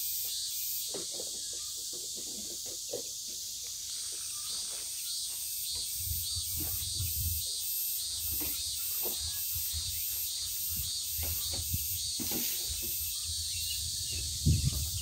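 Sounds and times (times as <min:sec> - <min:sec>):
cicadas chirring: 0:00.0 - 0:15.0.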